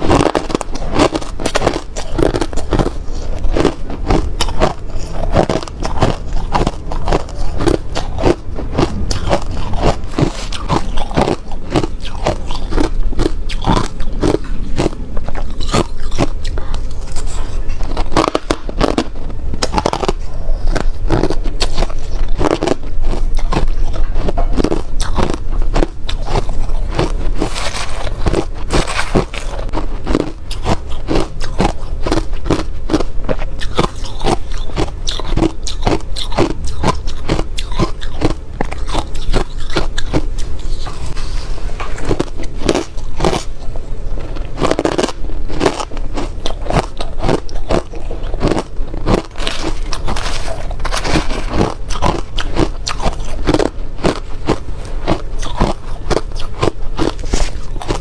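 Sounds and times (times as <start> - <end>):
crunching ice being chewed: 0.0 - 58.0.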